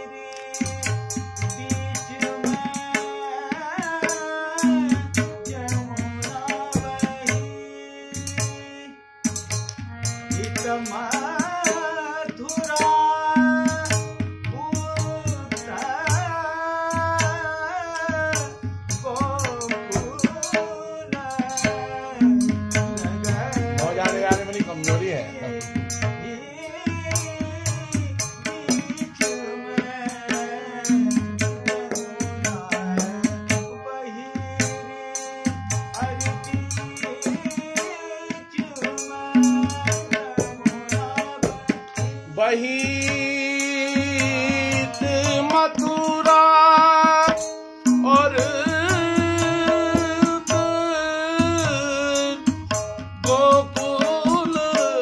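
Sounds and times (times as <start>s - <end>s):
harmonium: 0.0s - 55.0s
man singing: 0.0s - 55.0s.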